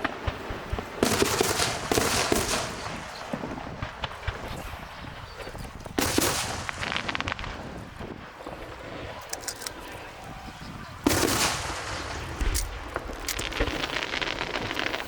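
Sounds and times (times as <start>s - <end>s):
fireworks crackling bangs: 0.0s - 15.0s.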